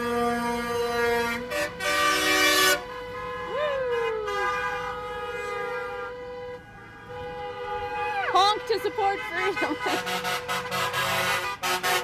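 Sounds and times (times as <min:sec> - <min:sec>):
truck and car horns honking: 0:00.0 - 0:12.0.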